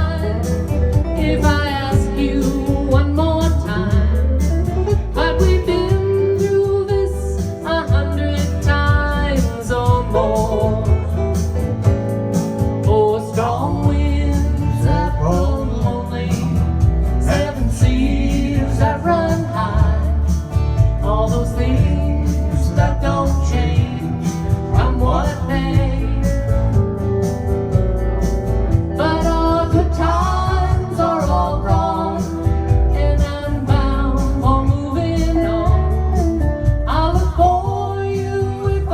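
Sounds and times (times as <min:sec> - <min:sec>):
country-folk song: 0:00.0 - 0:38.9.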